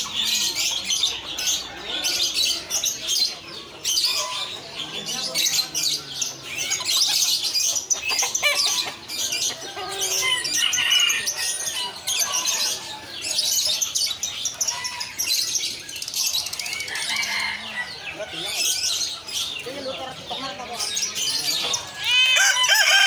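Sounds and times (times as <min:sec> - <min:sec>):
birds chirping and twittering: 0:00.0 - 0:23.0.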